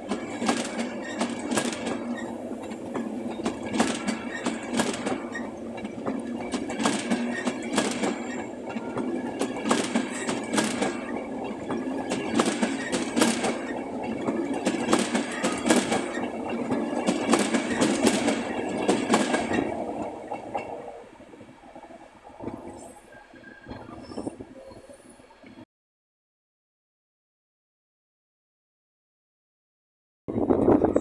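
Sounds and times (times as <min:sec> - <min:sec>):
train rumble: 0:00.0 - 0:25.6, 0:30.3 - 0:31.0
train wheels clicking over track: 0:00.0 - 0:25.6.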